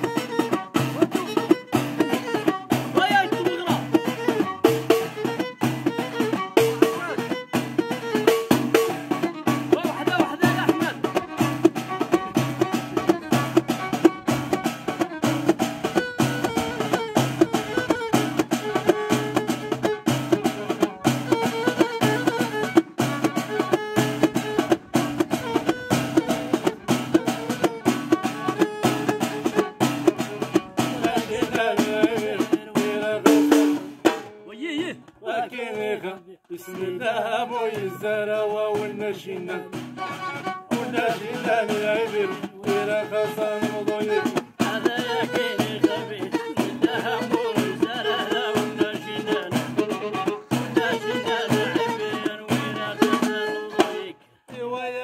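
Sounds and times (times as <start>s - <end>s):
violin melody: 0.0s - 32.4s, 39.7s - 54.2s
frame drums beating: 0.0s - 34.4s, 39.7s - 54.1s.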